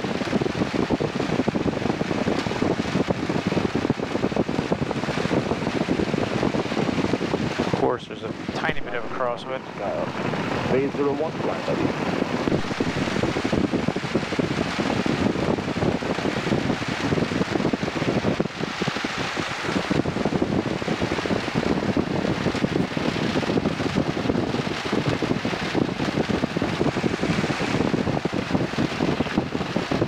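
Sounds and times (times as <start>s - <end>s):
airplane engine and propeller: 0.0s - 30.0s
wind rushing: 0.8s - 30.0s.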